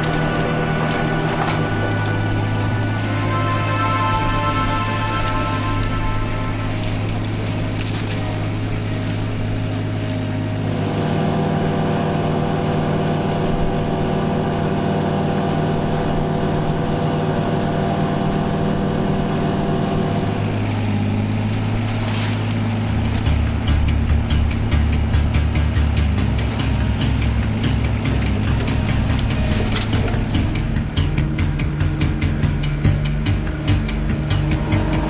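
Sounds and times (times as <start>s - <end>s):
miniloader engine running: 0.0s - 35.0s.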